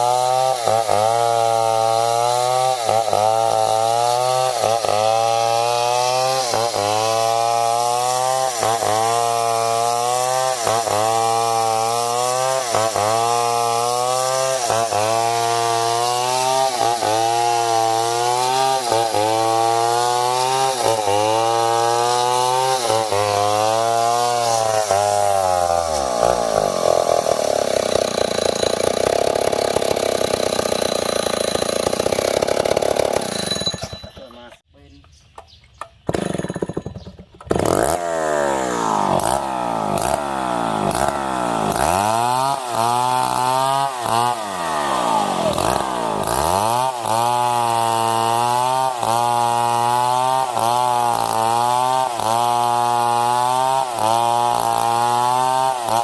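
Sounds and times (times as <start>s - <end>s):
chainsaw cutting at high revs: 0.0s - 34.3s, 36.1s - 36.8s, 37.5s - 56.0s.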